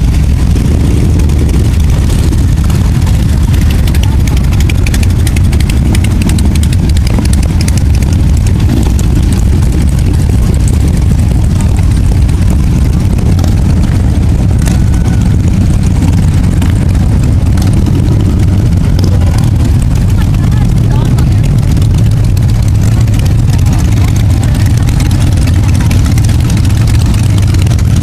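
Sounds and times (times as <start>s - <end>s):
motorcycles rumbling past: 0.0s - 28.0s.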